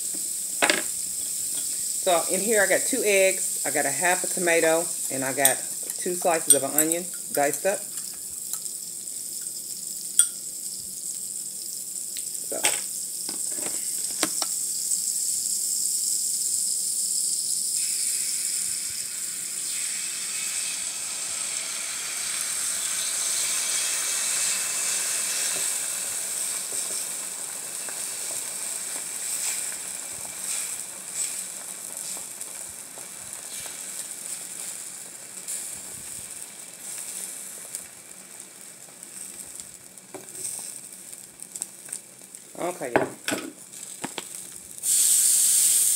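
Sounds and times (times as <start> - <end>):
egg mix sizzling on griddle: 0.0 - 45.9.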